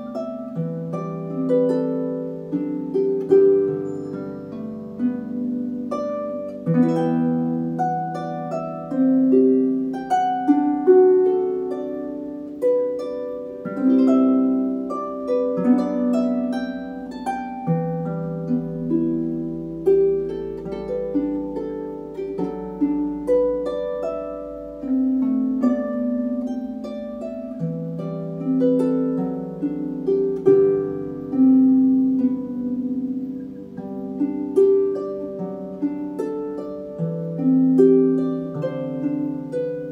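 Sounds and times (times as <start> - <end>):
harp playing slow melody: 0.0 - 39.9.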